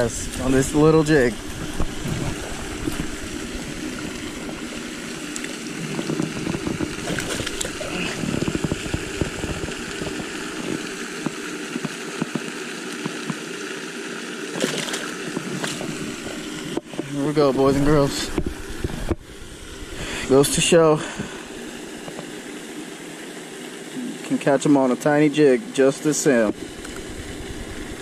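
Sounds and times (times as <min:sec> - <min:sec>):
water splashing and sloshing: 0:00.0 - 0:24.6, 0:26.2 - 0:28.0.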